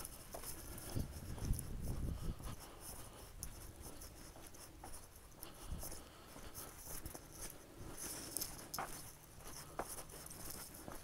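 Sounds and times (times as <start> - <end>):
footsteps on dirt trail: 0.0 - 11.0.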